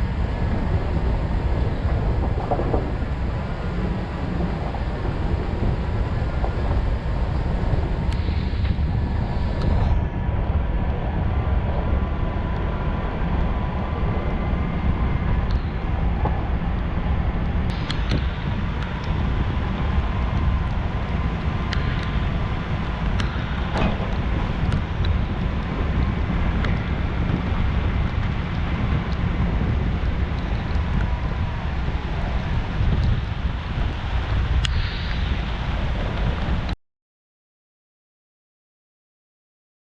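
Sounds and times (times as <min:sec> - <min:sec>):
engine and tyres rumbling: 0:00.0 - 0:36.8.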